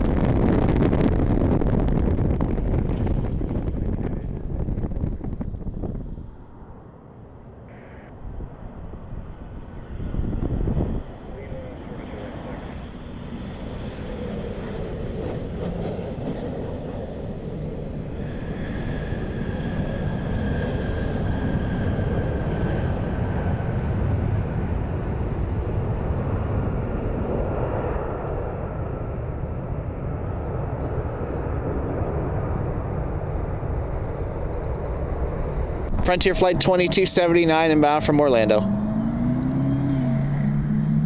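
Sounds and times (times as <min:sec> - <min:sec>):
jet airliner passing: 0:00.0 - 0:41.0.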